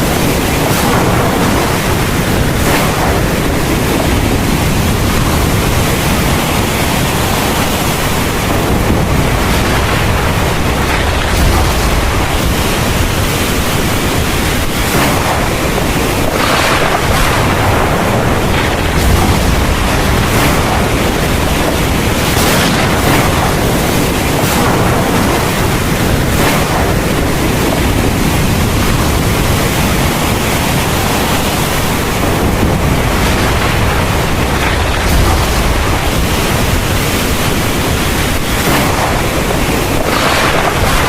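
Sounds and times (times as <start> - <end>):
heavy rain pouring: 0.0 - 41.0
thunder rumbling: 0.0 - 41.0.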